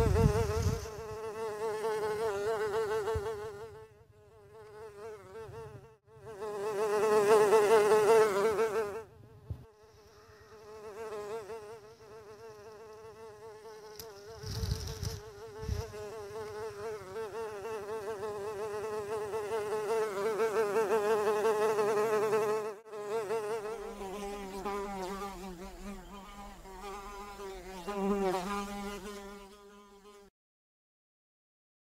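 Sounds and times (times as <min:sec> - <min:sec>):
honey bee buzzing in flight: 0:00.0 - 0:30.3.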